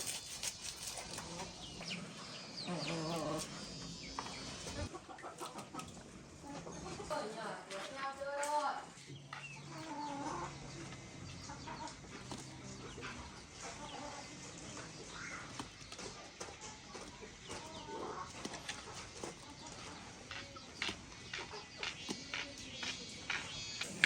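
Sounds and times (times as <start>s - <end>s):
chickens clucking: 0.0s - 8.1s, 9.0s - 24.0s.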